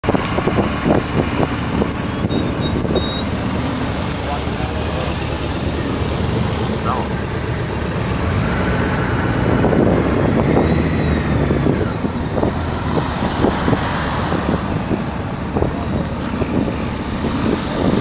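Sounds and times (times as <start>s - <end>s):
car engine running: 0.0s - 18.0s
cars passing: 0.0s - 18.0s
road and wind noise: 0.0s - 18.0s.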